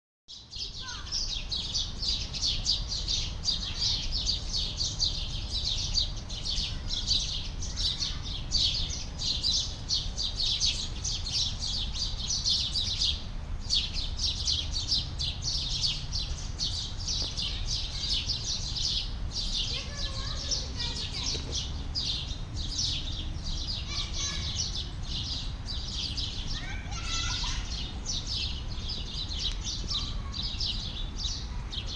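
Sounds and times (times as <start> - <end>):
small birds chirping: 0.3 - 31.9.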